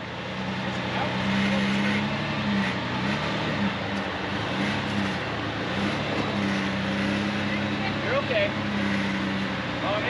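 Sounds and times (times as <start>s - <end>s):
vehicle engine at low revs: 0.0s - 10.0s.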